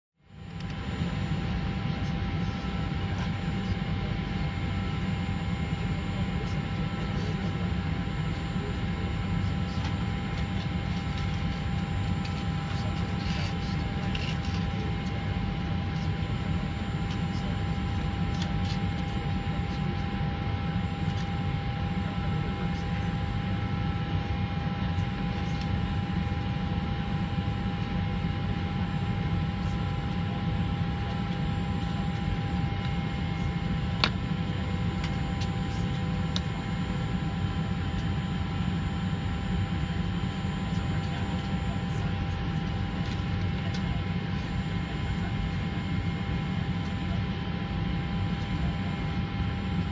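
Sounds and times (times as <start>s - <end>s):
jet engine rumble in cabin: 0.2s - 49.9s
steady whining tones: 0.4s - 49.9s.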